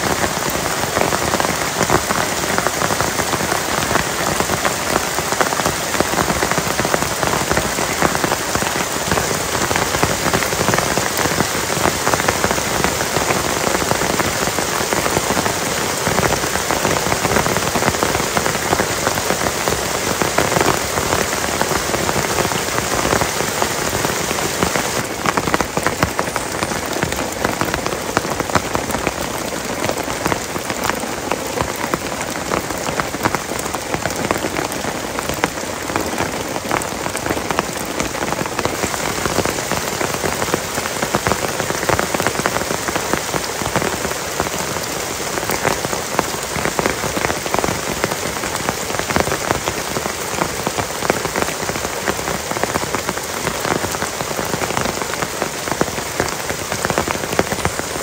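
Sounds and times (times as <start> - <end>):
heavy rain on a tent: 0.0 - 58.0.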